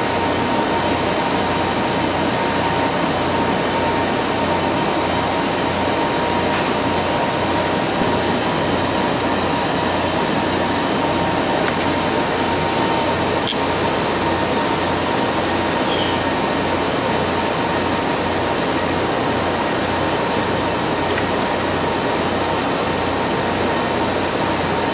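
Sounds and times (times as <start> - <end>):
laser cutter rushing hiss and hum: 0.0 - 24.9.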